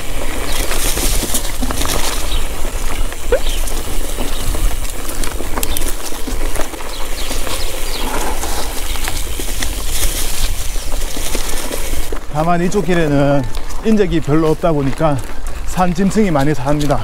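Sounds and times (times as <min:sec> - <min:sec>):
bike rattling over bumps: 0:00.0 - 0:17.0
bike tyres on dirt trail: 0:00.0 - 0:17.0.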